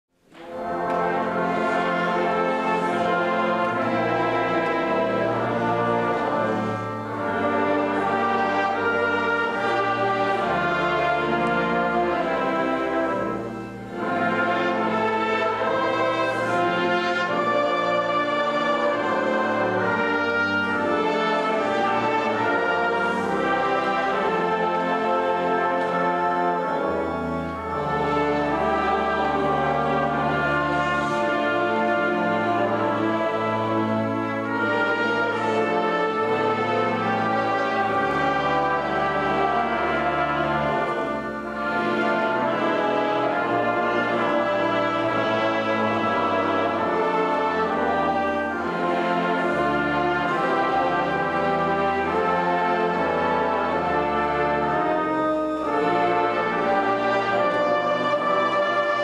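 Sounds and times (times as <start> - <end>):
brass ensemble playing: 0.2 - 59.0
tuba low bass notes: 0.2 - 59.0.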